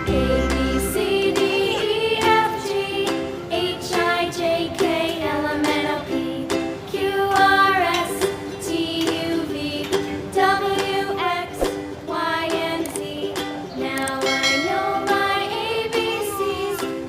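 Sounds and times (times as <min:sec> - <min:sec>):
person singing a children's song: 0:00.0 - 0:17.0
plucked-string accompaniment: 0:00.0 - 0:17.0.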